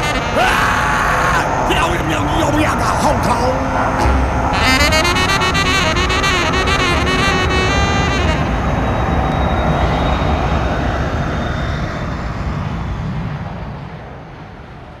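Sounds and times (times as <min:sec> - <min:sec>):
faint high whine: 0:00.0 - 0:15.0
jet engines roaring: 0:00.0 - 0:15.0.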